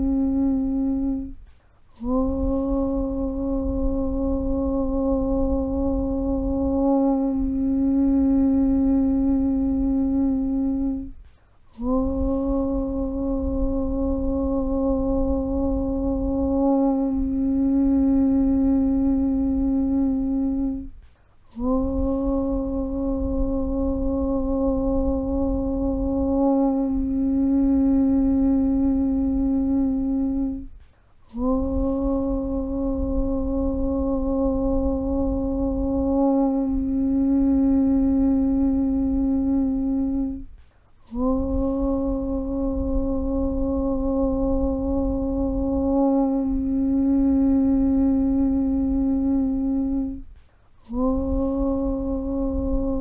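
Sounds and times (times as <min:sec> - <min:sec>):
person chanting low held note: 0:00.0 - 0:53.0.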